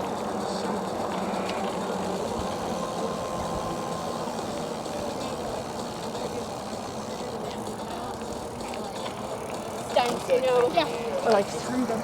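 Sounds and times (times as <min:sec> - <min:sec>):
bike tyre road noise: 0:00.0 - 0:12.0
wind: 0:00.0 - 0:12.0.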